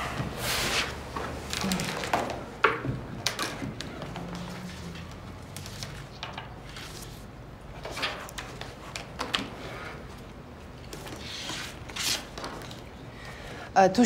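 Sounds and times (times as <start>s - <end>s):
papers rustling and tapping: 0.1s - 13.0s.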